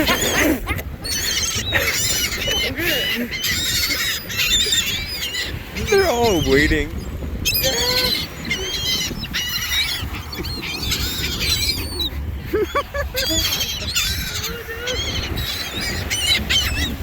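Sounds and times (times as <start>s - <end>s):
flock of birds calling: 0.0s - 17.0s.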